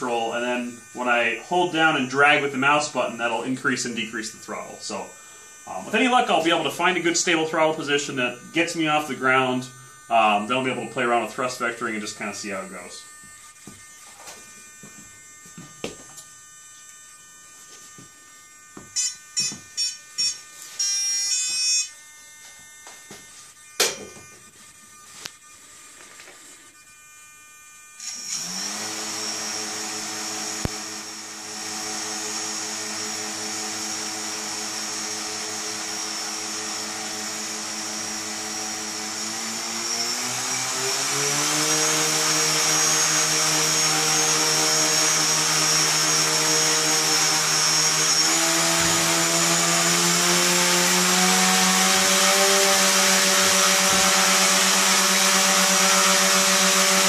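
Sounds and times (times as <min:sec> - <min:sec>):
electric propeller motors whining: 0:00.0 - 0:57.0.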